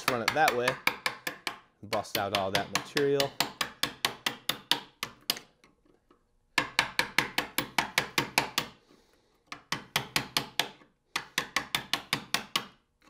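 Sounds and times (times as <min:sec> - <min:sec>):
hammer tapping chisel into wood: 0:00.0 - 0:05.6, 0:06.5 - 0:08.8, 0:09.4 - 0:12.9.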